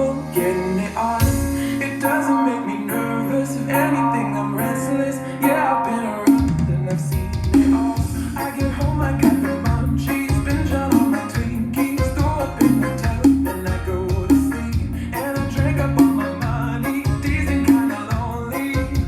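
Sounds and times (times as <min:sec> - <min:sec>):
pop song with vocals: 0:00.0 - 0:19.0.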